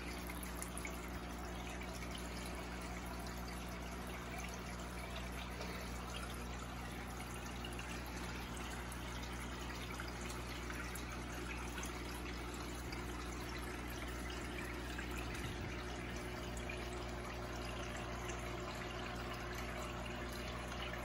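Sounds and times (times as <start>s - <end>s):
low steady hum: 0.0s - 21.0s
water trickling and splashing: 0.0s - 21.0s.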